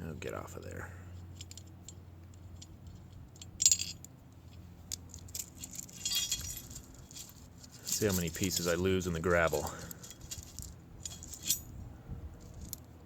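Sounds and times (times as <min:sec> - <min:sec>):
steel parts clinking and rattling: 0:01.1 - 0:13.0.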